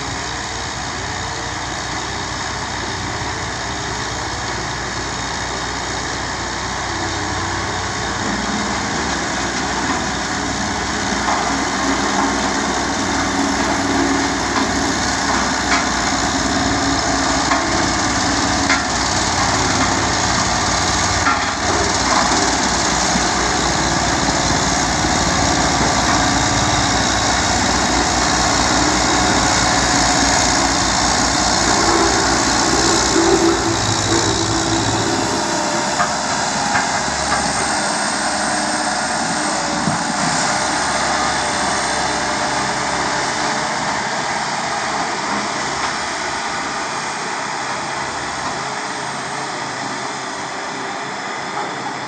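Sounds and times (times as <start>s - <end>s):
heavy engine pulsing: 0.0s - 52.0s.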